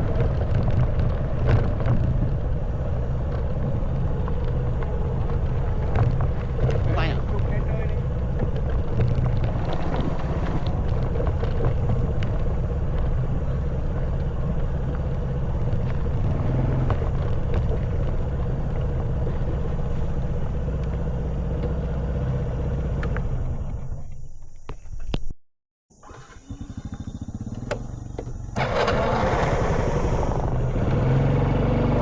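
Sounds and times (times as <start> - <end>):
knocks from rough road: 0.0 - 21.8, 27.2 - 31.2
motorcycle engine running: 0.0 - 24.9, 26.0 - 32.0.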